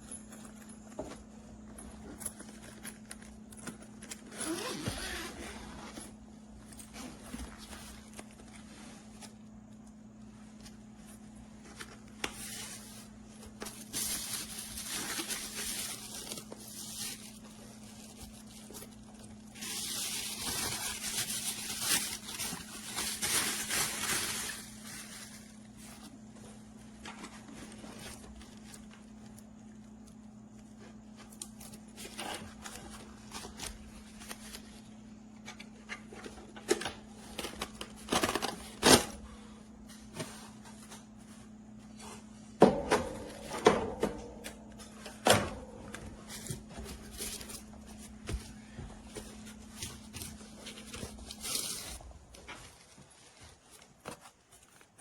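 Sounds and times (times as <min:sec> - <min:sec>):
steady low hum: 0:00.0 - 0:53.6
rustling handling noise: 0:00.0 - 0:55.0.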